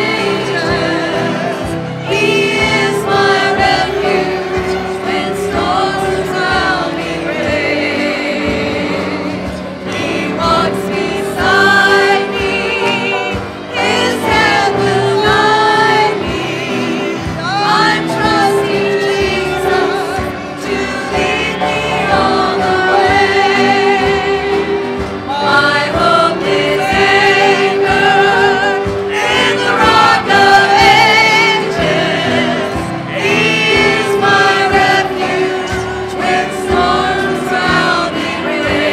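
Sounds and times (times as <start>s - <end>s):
gospel choir singing: 0.0s - 38.9s.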